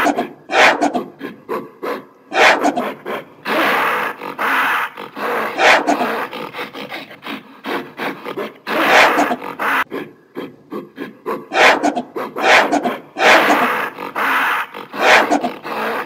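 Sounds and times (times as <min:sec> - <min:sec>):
gorilla gruff calls: 0:00.0 - 0:16.0.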